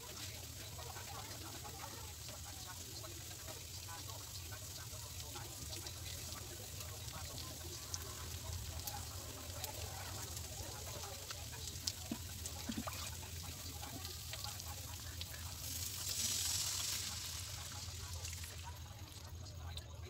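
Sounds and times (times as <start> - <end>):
liquid poured into hot wok hissing: 0.0 - 19.6
small crackles: 0.0 - 20.0
vegetables sizzling in a wok: 0.0 - 20.0.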